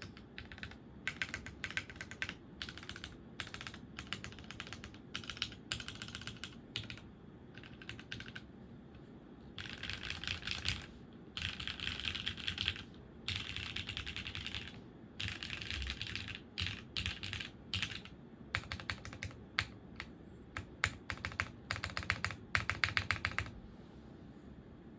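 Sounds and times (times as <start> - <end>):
mechanical keyboard typing: 0.0 - 8.5, 9.6 - 23.5.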